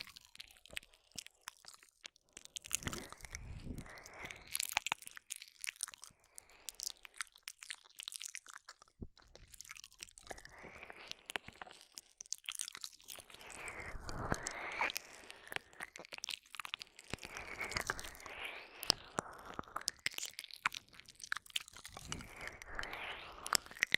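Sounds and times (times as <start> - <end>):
wet mouth clicks and smacks: 0.0 - 23.9.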